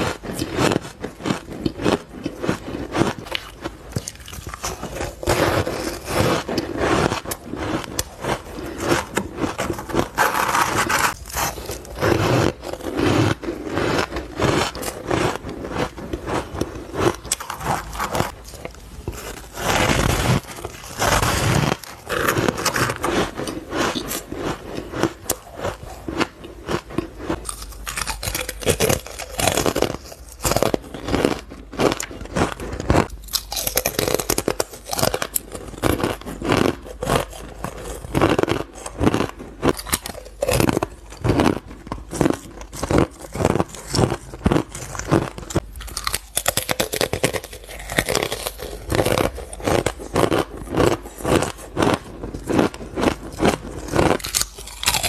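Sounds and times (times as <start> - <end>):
ice being crunched: 0.0 - 55.0.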